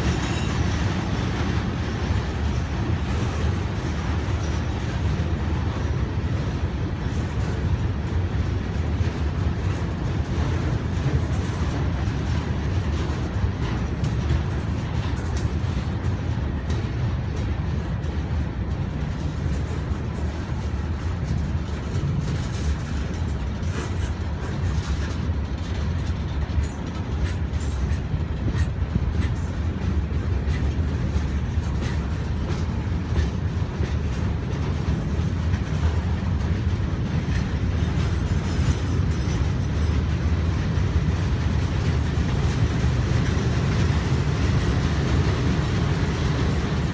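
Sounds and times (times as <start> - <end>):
rail clicks: 0.0 - 46.9
train wheels rumbling on rails: 0.0 - 46.9.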